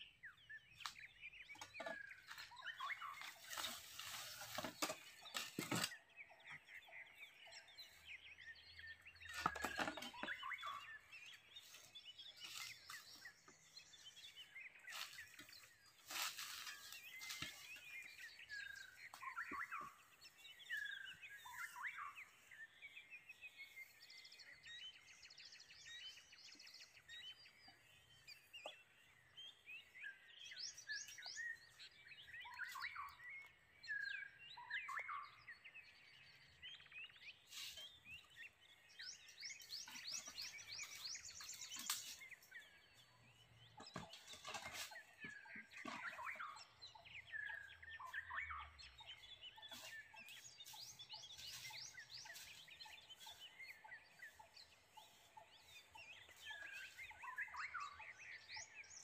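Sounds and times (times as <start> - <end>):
wild birds chirping and whistling: 0.0 - 59.0.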